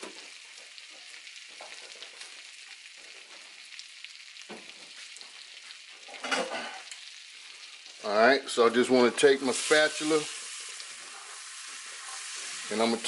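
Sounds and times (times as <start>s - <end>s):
butter sizzling in skillet: 0.0s - 13.0s.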